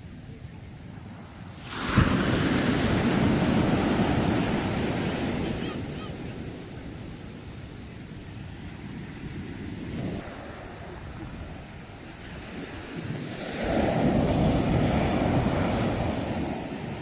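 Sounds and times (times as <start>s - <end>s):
ocean wave breaking: 1.1s - 17.0s.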